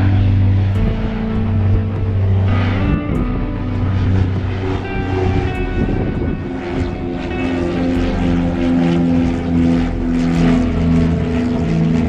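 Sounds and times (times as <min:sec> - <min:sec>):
light airplane engine drone: 0:00.0 - 0:12.0.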